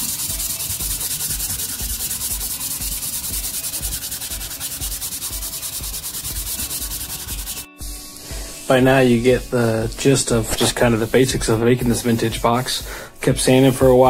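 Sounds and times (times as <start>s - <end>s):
sandpaper rasping on wood: 0.0s - 7.7s, 9.2s - 12.8s.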